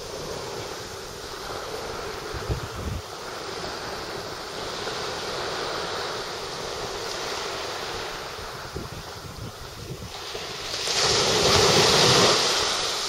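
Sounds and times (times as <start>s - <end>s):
small waves washing on sand: 0.0s - 13.0s
wind buffeting microphone: 0.0s - 13.0s.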